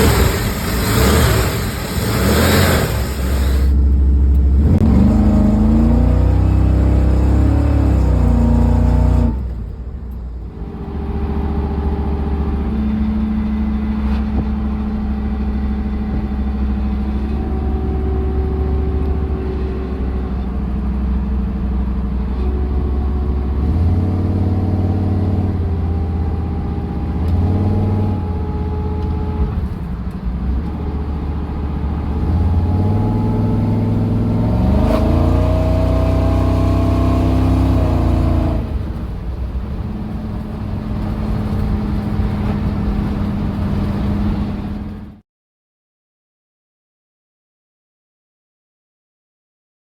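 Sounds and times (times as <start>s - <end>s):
car engine revving: 0.0s - 9.7s, 10.4s - 45.2s.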